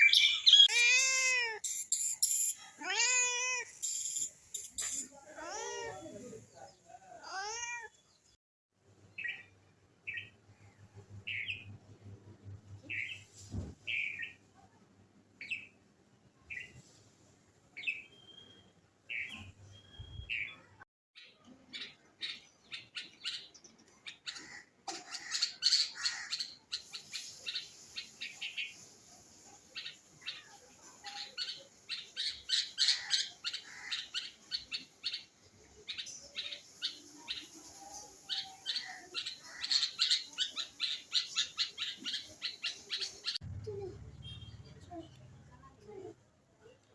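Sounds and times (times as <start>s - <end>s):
songbirds chirping: 0.0s - 0.7s, 3.7s - 14.6s, 15.3s - 43.4s.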